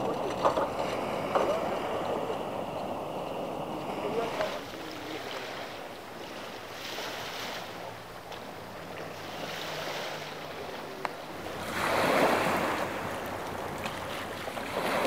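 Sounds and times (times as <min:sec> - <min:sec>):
outboard motor humming: 0:00.0 - 0:15.0
rush of water and wind: 0:00.0 - 0:15.0
water noise: 0:00.0 - 0:15.0.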